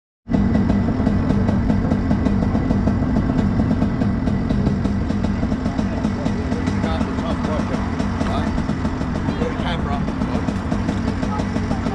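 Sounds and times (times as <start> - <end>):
kart engine running: 0.3 - 11.9.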